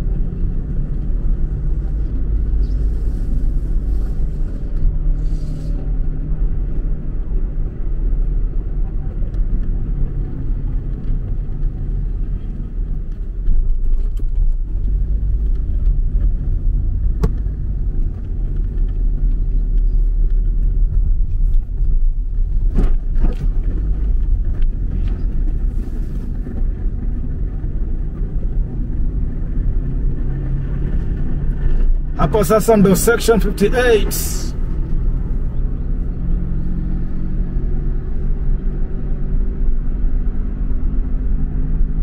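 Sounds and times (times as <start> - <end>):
car cabin engine and tyre rumble: 0.0 - 42.0.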